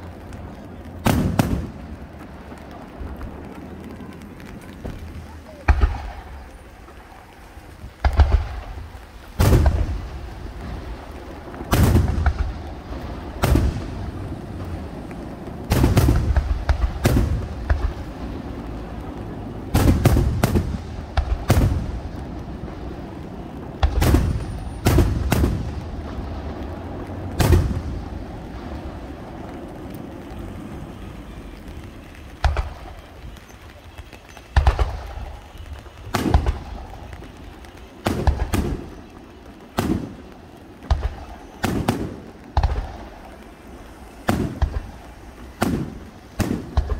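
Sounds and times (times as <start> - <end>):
fireworks shells booming: 0.0 - 46.9.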